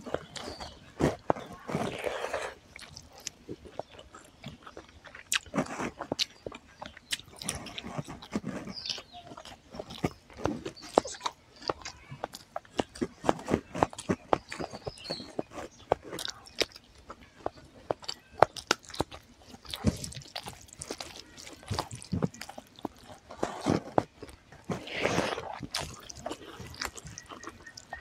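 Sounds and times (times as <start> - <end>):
fingers mixing rice squishily: 0.0 - 28.0
wet mouth chewing smacks: 0.0 - 28.0.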